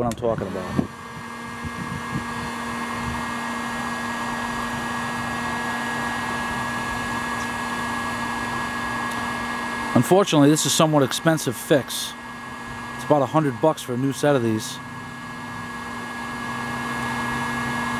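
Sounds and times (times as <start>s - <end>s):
heat gun blowing hot air: 0.0s - 17.9s.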